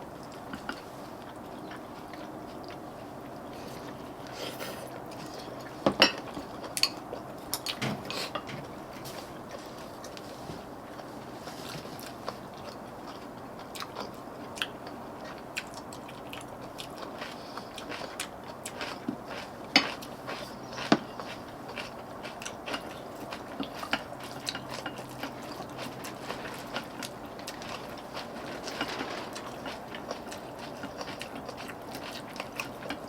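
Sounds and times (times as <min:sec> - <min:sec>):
chewing and biting: 0:00.0 - 0:08.2, 0:09.4 - 0:33.0.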